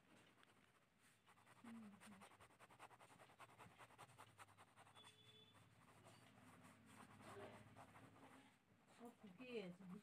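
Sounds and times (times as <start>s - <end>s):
pen scratching on paper: 0.3s - 10.0s.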